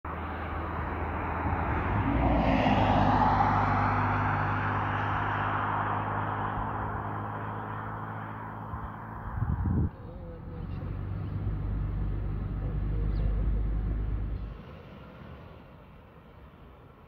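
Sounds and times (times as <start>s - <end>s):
car driving past: 0.1s - 16.4s.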